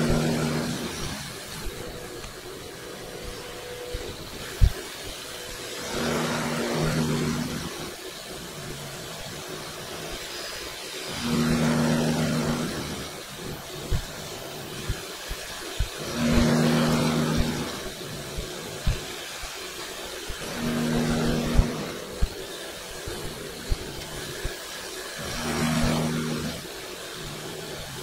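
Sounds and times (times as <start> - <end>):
milling machine cutting metal: 0.0 - 28.0.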